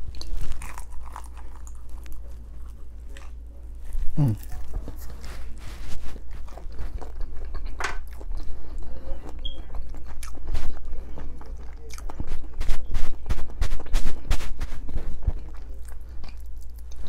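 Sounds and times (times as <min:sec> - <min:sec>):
crunchy chewing: 0:00.0 - 0:17.0
steady low hum: 0:00.0 - 0:17.0.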